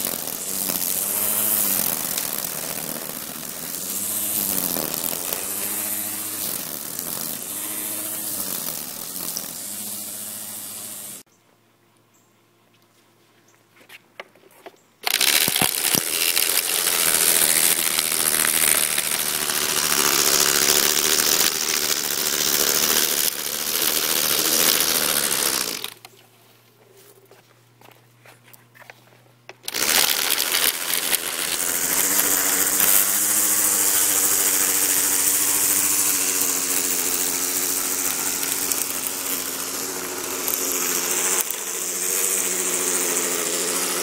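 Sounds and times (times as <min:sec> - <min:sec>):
string trimmer motor whine: 0:00.0 - 0:11.3, 0:15.0 - 0:26.1, 0:29.5 - 0:44.0.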